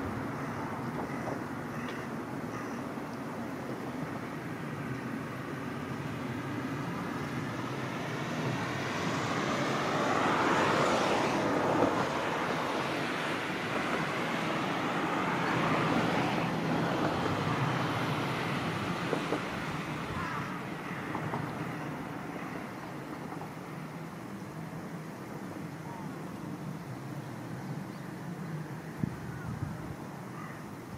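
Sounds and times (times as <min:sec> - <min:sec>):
steady background noise: 0:00.0 - 0:30.9
vehicles passing: 0:00.0 - 0:30.9.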